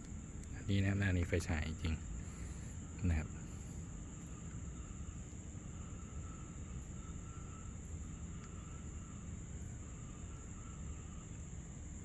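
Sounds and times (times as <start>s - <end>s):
insect trill: 0.0s - 12.0s
low background rumble: 0.0s - 12.0s
night insects droning: 0.0s - 12.0s.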